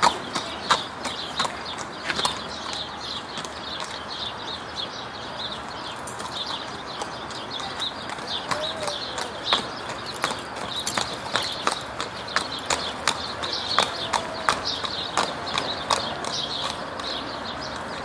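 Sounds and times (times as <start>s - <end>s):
horse hooves on asphalt: 0.0s - 18.0s.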